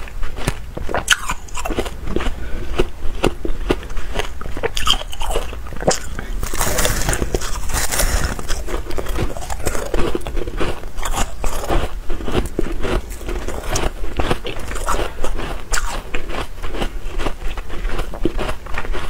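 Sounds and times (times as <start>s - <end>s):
person crunching frost: 0.0s - 19.0s.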